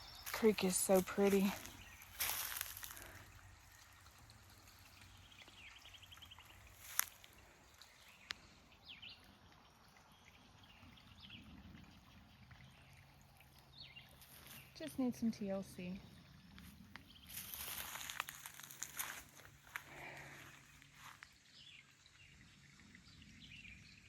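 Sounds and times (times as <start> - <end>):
creek water trickling: 0.0 - 24.0.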